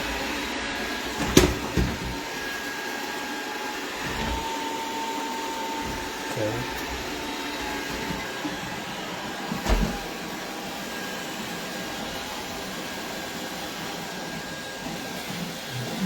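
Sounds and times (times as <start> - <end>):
robot vacuum running: 0.0 - 16.0.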